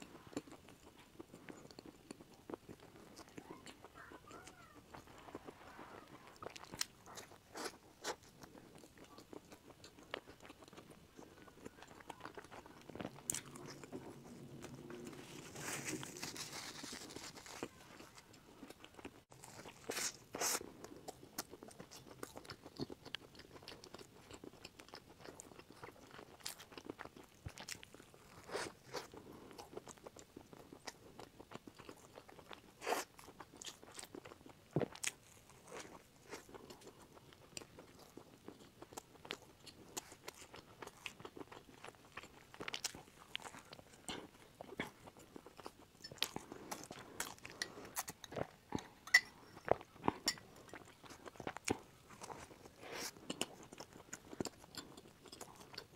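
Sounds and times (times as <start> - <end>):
crunchy bread chewing: 0.0 - 55.9.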